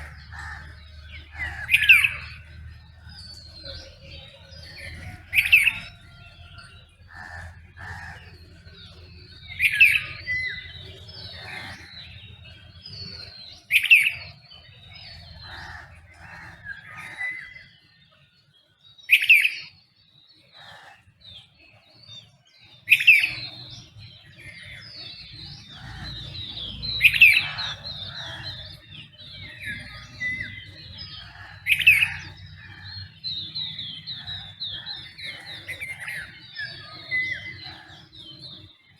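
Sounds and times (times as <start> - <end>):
soft bird chirps and trills: 0.0 - 38.9.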